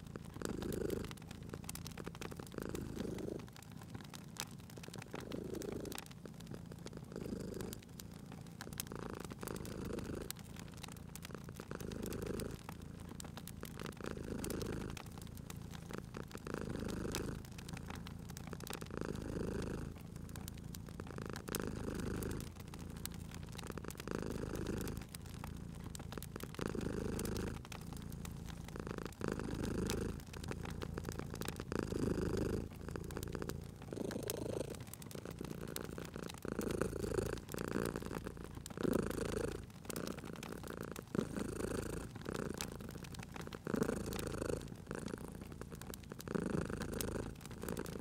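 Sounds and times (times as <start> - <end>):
cat purring: 0.0 - 48.0
wood fire crackling: 0.0 - 48.0.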